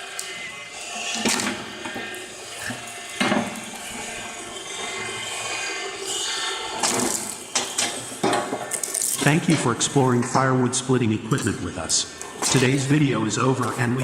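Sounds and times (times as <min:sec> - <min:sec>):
wood splitter motor whirring: 0:00.0 - 0:14.0.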